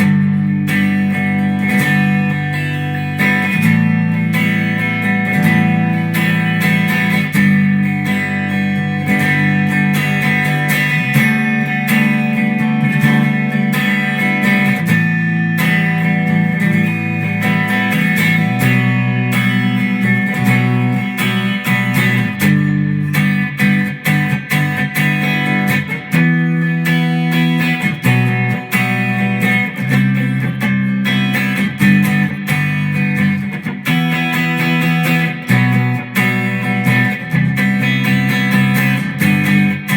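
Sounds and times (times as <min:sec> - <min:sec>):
guitar picked notes and chords: 0:00.0 - 0:39.9.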